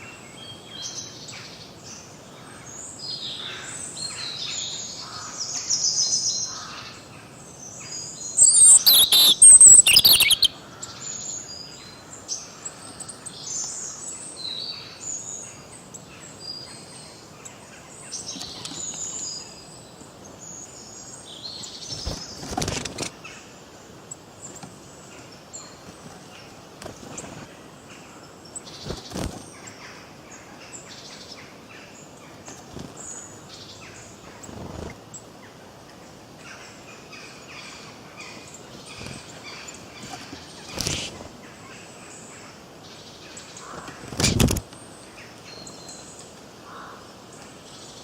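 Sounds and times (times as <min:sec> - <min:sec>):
songbirds chirping and singing: 0:00.0 - 0:48.0
steady background hiss: 0:00.0 - 0:48.0.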